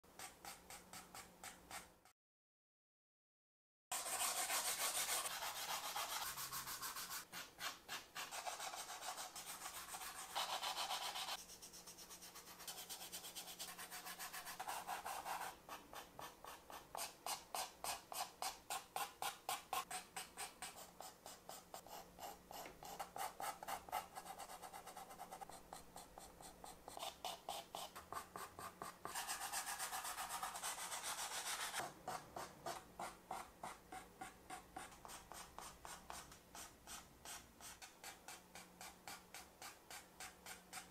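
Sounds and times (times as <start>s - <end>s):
pastel scratching on paper: 3.9s - 40.9s.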